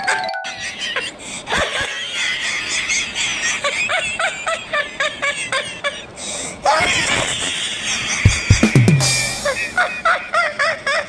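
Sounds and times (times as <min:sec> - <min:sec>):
person laughing and squealing: 0:00.6 - 0:06.1, 0:06.7 - 0:10.3.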